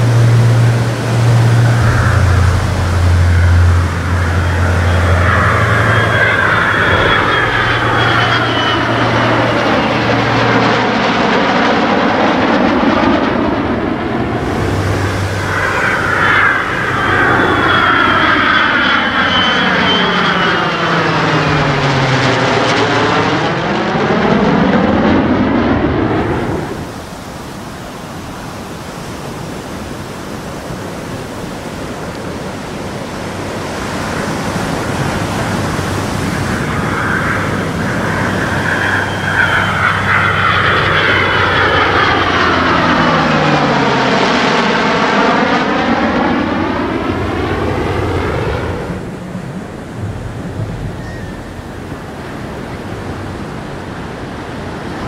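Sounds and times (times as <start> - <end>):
fighter jet flying past: 0.0 - 55.0.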